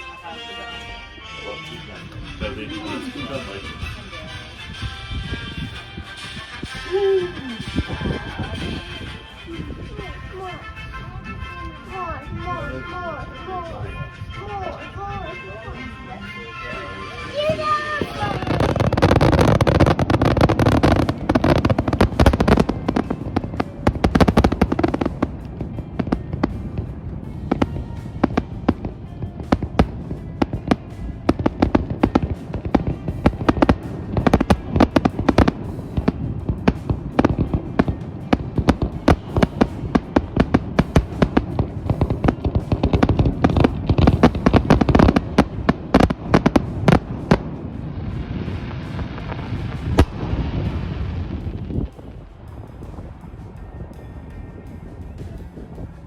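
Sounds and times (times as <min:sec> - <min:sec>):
fireworks bangs and crackles: 0:02.0 - 0:56.0.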